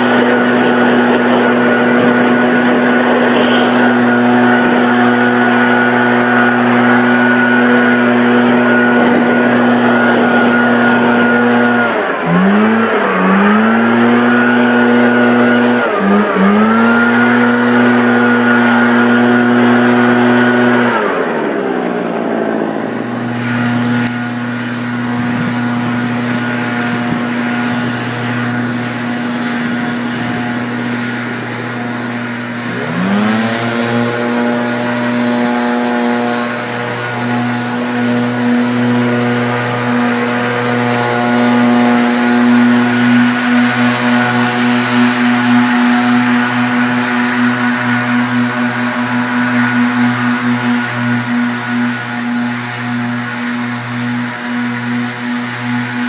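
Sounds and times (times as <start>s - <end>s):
leaf blowers droning: 0.0s - 56.0s.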